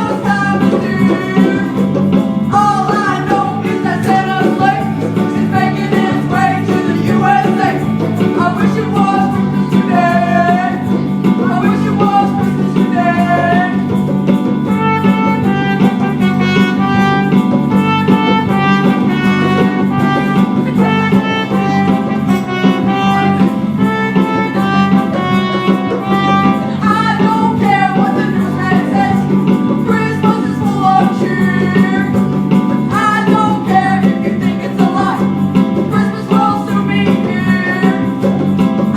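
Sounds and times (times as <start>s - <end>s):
upbeat christmas band music: 0.0s - 38.9s.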